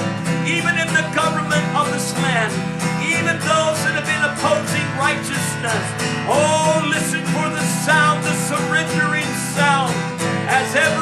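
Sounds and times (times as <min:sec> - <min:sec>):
worship music with acoustic guitar: 0:00.0 - 0:11.0.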